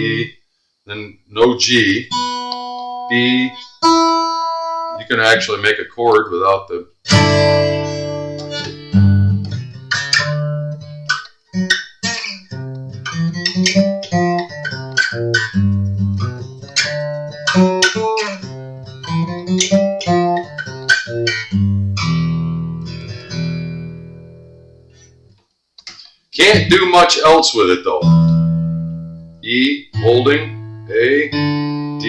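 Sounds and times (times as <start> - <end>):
acoustic guitar strumming and picking: 1.8 - 5.7, 7.0 - 32.0.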